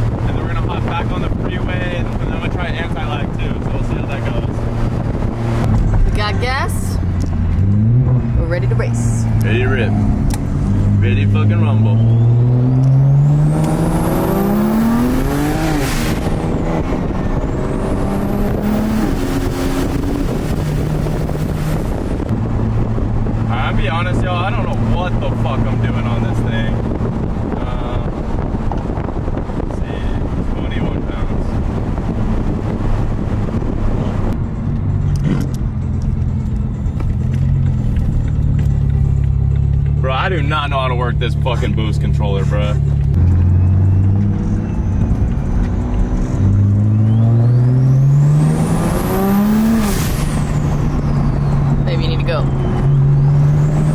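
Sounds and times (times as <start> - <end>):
car engine accelerating hard: 0.0 - 53.9
wind and road noise: 0.0 - 53.9.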